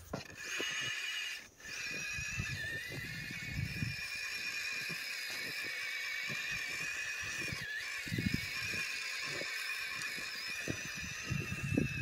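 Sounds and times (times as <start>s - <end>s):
toy truck motor whine: 0.0s - 12.0s
tyres churning through snow: 0.0s - 12.0s.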